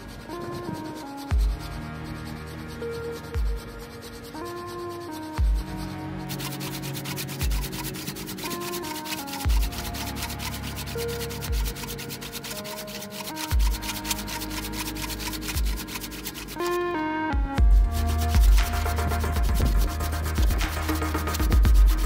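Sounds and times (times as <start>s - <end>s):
background music with bass beat: 0.0s - 12.7s, 13.4s - 22.0s
wood being sanded: 0.0s - 22.0s.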